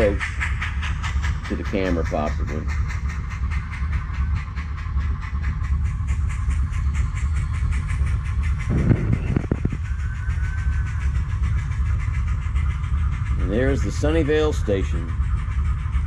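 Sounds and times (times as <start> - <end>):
model steam locomotive chuffing: 0.0 - 16.0
model train wheels rumbling: 0.0 - 16.0.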